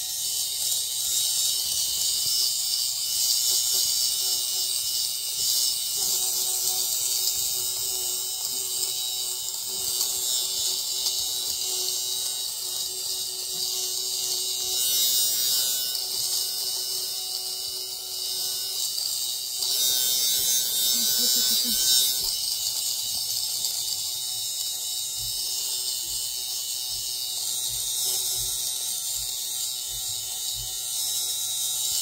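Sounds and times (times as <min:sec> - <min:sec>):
electric fabric shaver running: 0:00.0 - 0:32.0.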